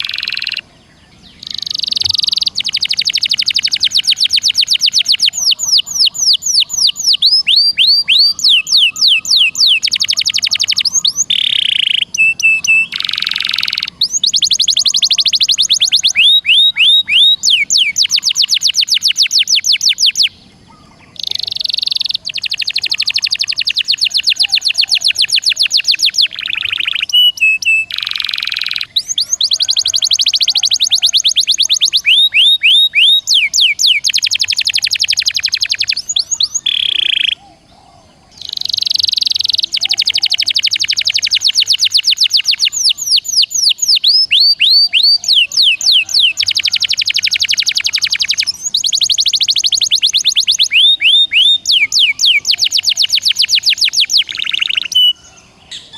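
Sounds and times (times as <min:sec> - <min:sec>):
songbird trilling: 0:00.0 - 0:55.9.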